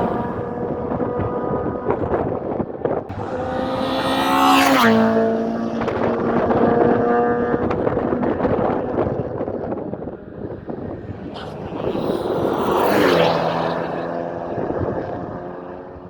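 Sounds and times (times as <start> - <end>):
race car engine passing by: 0.0 - 16.0.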